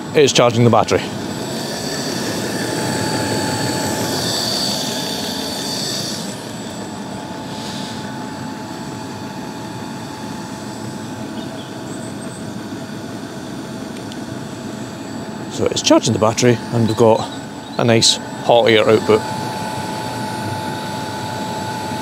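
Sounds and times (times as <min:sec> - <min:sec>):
air heater fans humming: 0:00.0 - 0:22.0.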